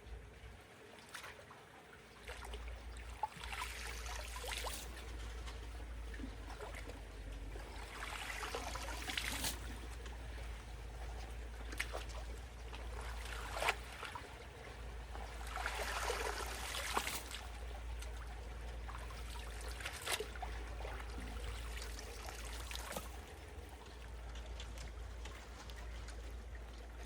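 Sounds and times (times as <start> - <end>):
water trickling through a culvert: 0.0 - 27.0.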